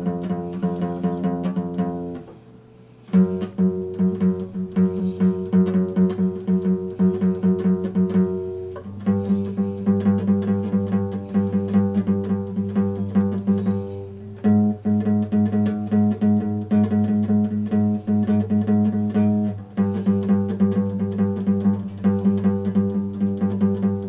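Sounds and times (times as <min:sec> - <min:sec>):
acoustic guitar plucked: 0:00.0 - 0:24.0.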